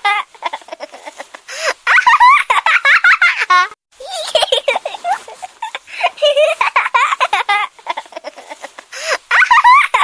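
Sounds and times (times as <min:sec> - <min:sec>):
baby laughing: 0:00.0 - 0:10.0.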